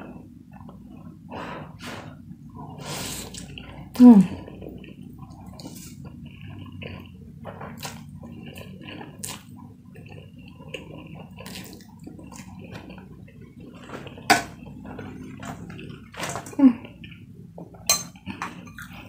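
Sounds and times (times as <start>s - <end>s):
slurping and chewing noodles: 0.1s - 19.0s.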